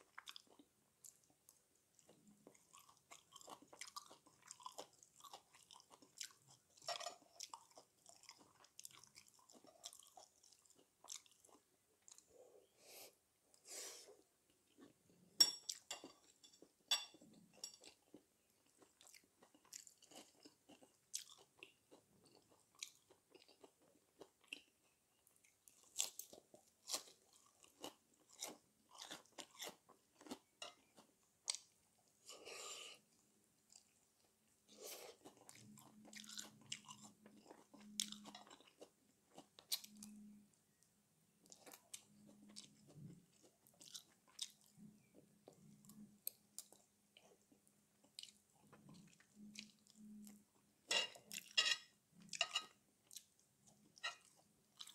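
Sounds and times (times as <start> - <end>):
man chewing and crunching food: 0.0 - 54.9.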